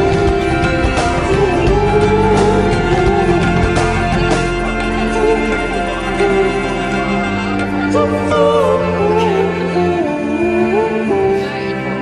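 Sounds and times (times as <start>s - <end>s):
slow background music melody: 0.0s - 12.0s.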